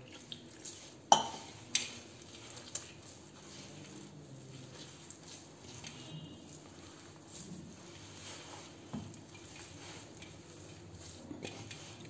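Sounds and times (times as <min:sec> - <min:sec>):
dough being kneaded in brass plate: 0:00.8 - 0:12.0.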